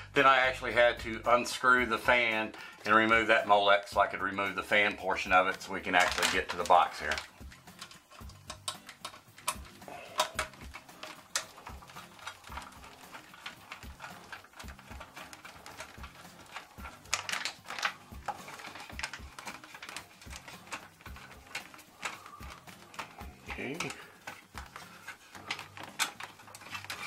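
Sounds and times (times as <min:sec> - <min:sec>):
small metal clicks and taps: 0:04.8 - 0:27.0.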